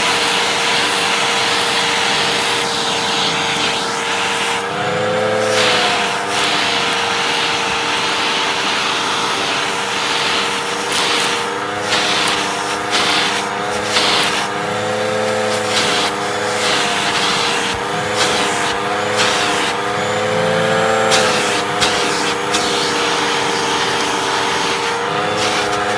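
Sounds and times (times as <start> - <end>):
air hissing through hose: 0.0 - 25.9
vacuum cleaner motor whine: 0.0 - 25.9.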